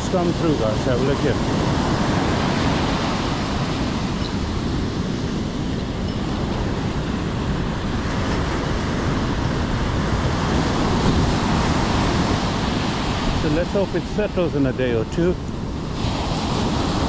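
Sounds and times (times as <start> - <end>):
rushing water: 0.0 - 17.0
wind rumble: 0.0 - 17.0.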